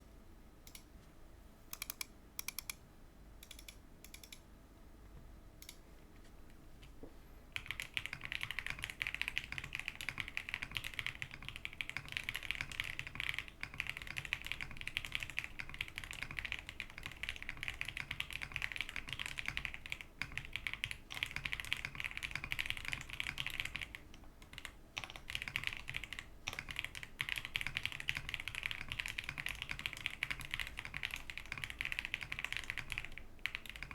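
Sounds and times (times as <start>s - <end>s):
mechanical keyboard typing: 1.7s - 2.8s, 3.4s - 4.4s, 7.6s - 33.9s.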